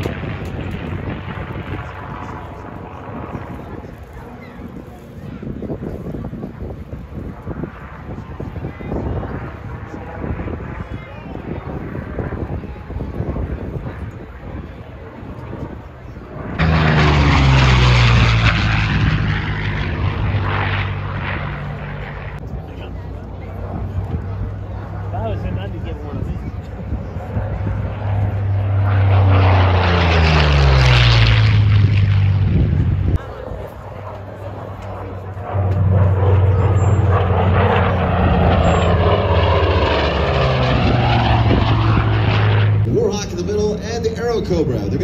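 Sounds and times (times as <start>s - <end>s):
propeller plane passing low: 0.0s - 45.0s.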